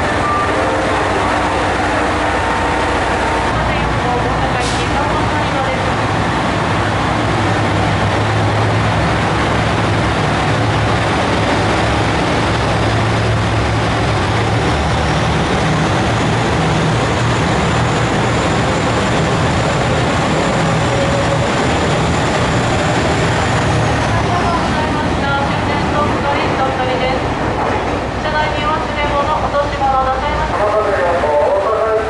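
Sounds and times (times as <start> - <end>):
diesel railcar engines idling: 0.0 - 32.0.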